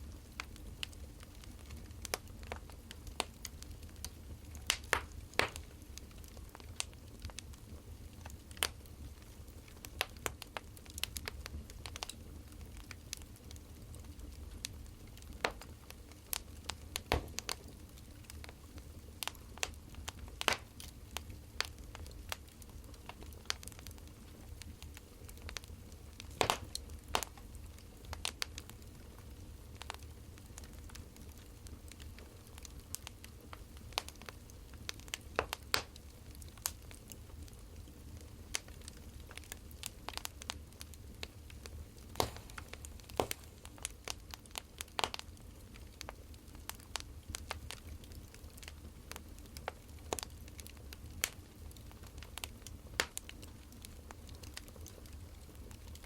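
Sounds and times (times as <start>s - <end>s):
firewood crackling and popping: 0.0s - 56.0s.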